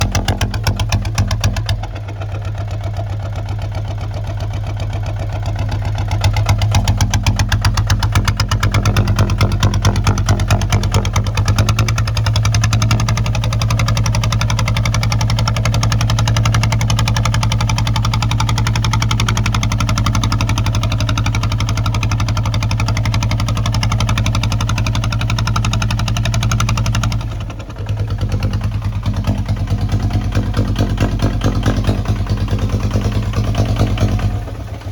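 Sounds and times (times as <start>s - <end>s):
diesel engine running steadily: 0.0s - 34.9s.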